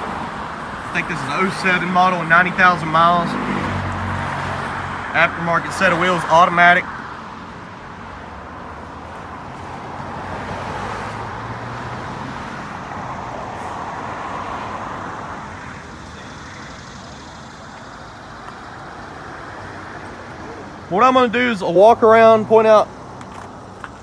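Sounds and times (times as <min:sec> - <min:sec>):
passing vehicles: 0:00.0 - 0:24.0.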